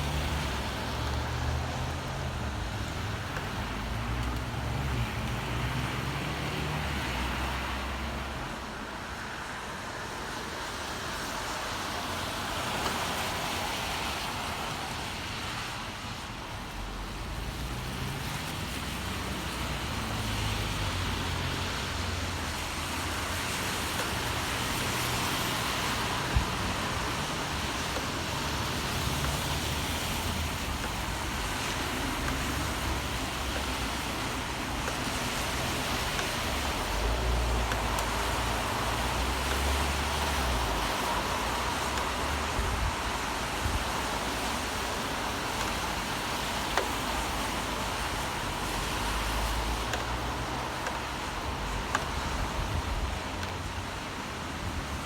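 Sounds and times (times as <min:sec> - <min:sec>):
vehicles passing rumble: 0:00.0 - 0:08.9, 0:11.2 - 0:55.0
rain hiss: 0:00.0 - 0:55.0
traffic on wet streets: 0:00.0 - 0:55.0.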